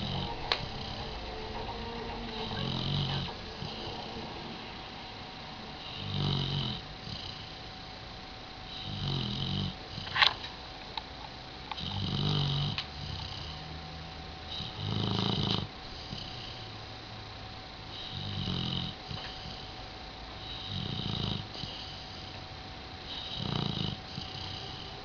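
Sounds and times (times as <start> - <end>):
dog snoring: 0.0 - 8.0, 8.6 - 10.4, 11.6 - 16.8, 17.9 - 19.8, 20.4 - 22.4, 23.0 - 25.0.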